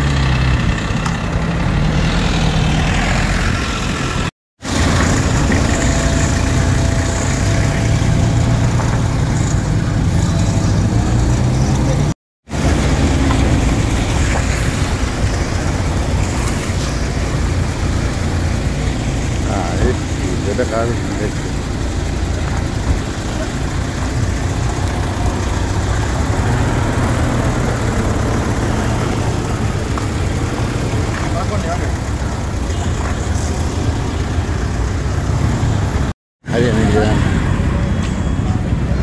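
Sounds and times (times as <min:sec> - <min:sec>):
vehicles driving slowly past: 0:00.0 - 0:39.0.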